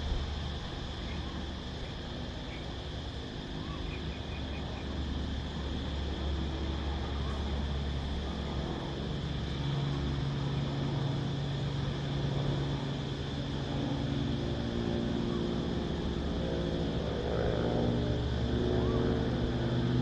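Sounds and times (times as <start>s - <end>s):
cicadas droning: 0.0s - 20.0s
low engine hum: 0.0s - 20.0s.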